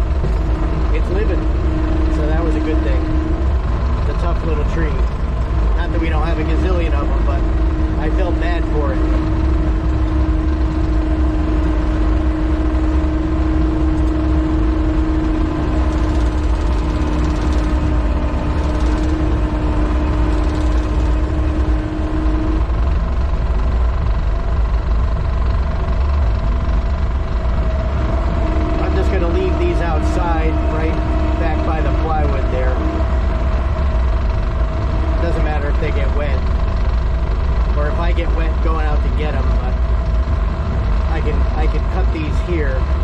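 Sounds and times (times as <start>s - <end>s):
loader diesel engine running: 0.0s - 43.0s
steady whine: 0.0s - 43.0s.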